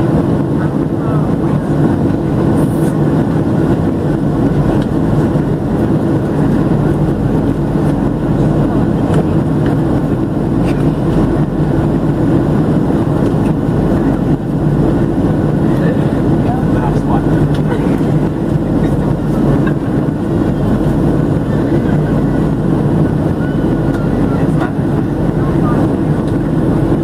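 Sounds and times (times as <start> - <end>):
airplane cabin engine roar: 0.0 - 27.0.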